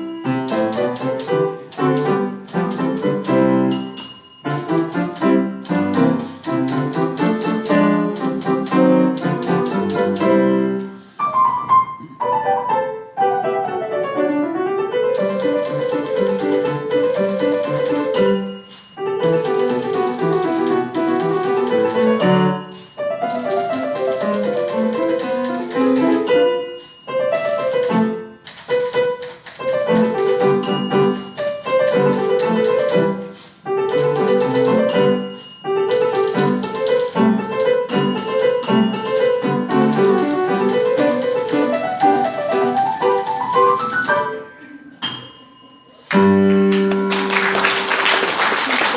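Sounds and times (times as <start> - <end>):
typewriter keystrokes clacking: 0.0 - 10.6, 15.1 - 44.4
piano music: 0.0 - 48.2.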